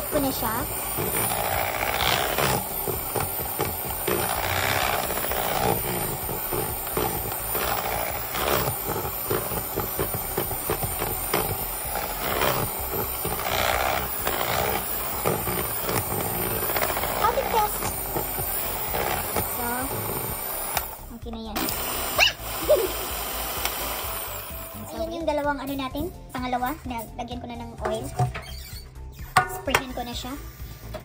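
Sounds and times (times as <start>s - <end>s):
electric hand mixer whipping batter: 0.0s - 26.0s.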